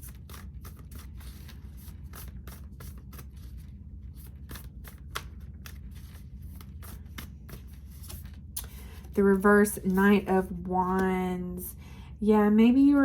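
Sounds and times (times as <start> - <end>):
cards being shuffled: 0.0 - 11.3
low room hum: 0.0 - 13.0.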